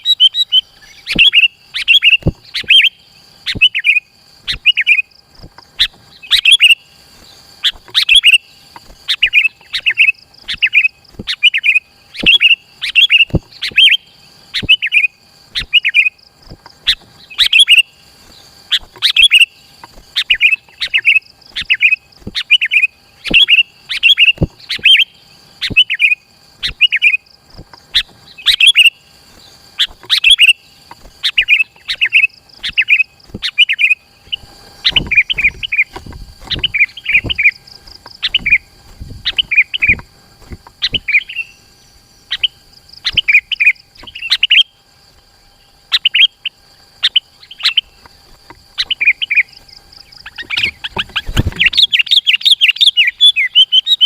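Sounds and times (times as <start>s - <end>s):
bulbul chattering calls: 0.0s - 44.8s, 45.5s - 54.0s.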